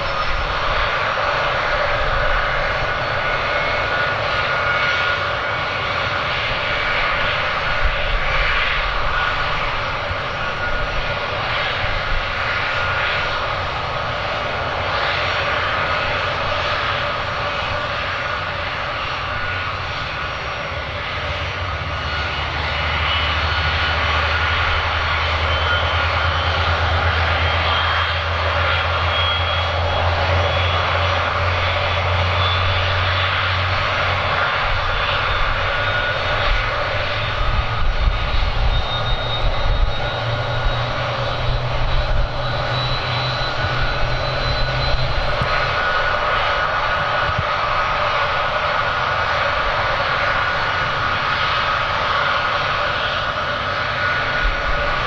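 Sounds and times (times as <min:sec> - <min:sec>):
aircraft engines whining: 0:00.0 - 0:55.0.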